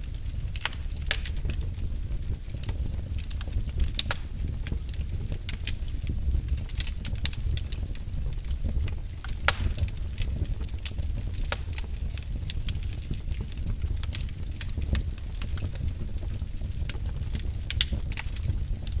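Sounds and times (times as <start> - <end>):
fire flames rumbling: 0.0 - 19.0
wood fire crackling and popping: 0.0 - 19.0.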